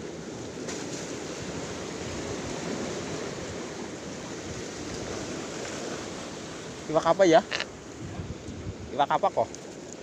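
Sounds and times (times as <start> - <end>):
sea surf washing: 0.0 - 10.0.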